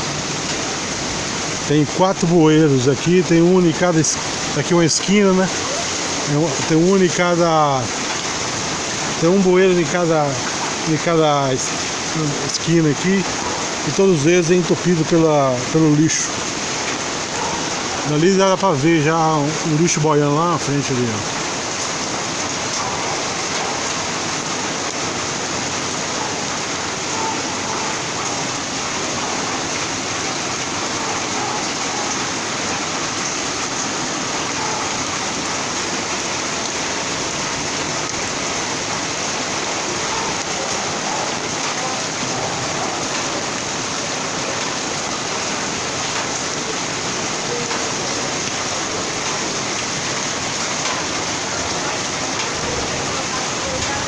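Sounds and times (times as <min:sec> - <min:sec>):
heavy rain on a flooded street: 0:00.0 - 0:54.0.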